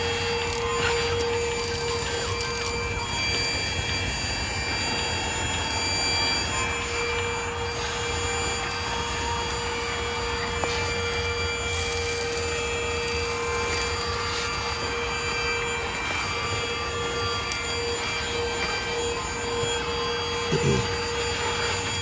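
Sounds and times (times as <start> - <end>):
cordless vacuum running: 0.0 - 22.0.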